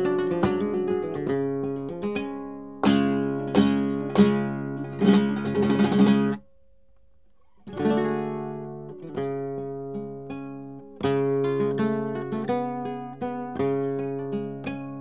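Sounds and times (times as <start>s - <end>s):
acoustic guitar strumming chords: 0.0s - 6.5s, 7.7s - 15.0s.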